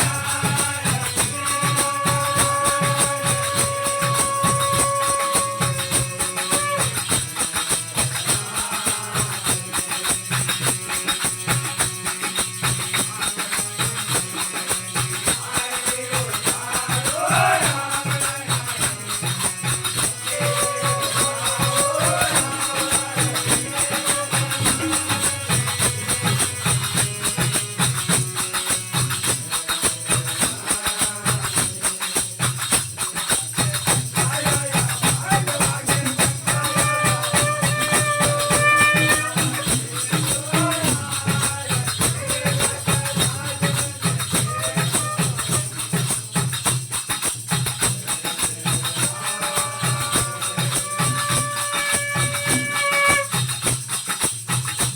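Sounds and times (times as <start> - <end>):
drum beat: 0.0 - 54.9
jingling hand cymbals: 0.0 - 54.9.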